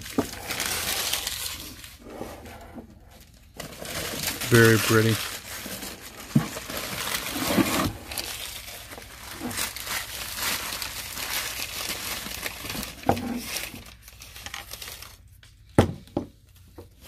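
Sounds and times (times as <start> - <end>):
wrapping paper crinkling: 0.0 - 15.7.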